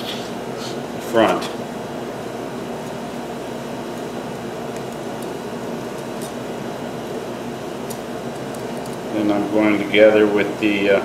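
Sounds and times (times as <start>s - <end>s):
mechanical fan whirring: 0.0s - 11.0s.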